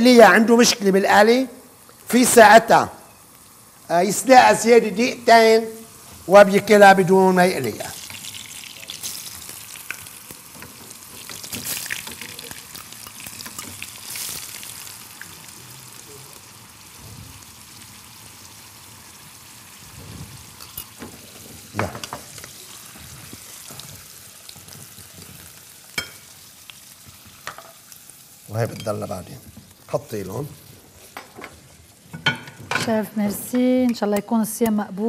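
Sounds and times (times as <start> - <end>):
taro sizzling in a pan: 0.0 - 35.0.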